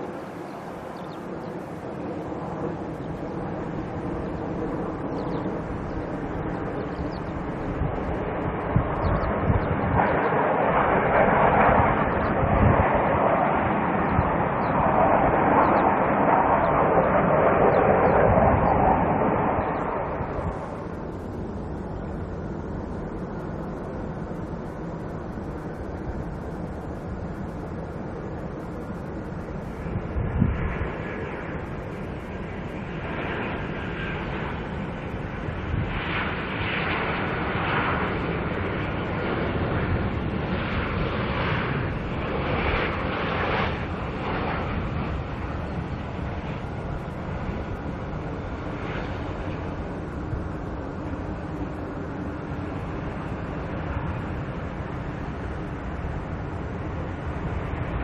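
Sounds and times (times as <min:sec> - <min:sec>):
airliner engines rumbling: 0:00.0 - 0:58.0.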